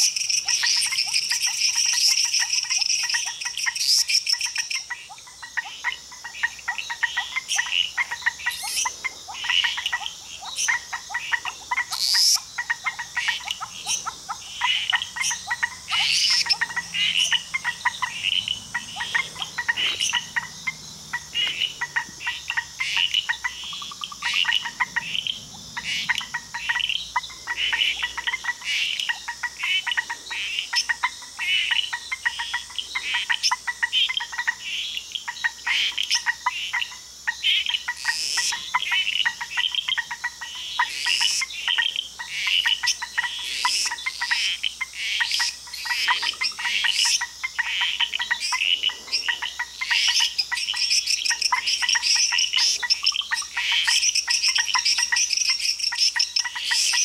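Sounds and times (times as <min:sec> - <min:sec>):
frog chorus clicking calls: 0:00.0 - 0:57.0
high frog chirps: 0:00.0 - 0:57.0.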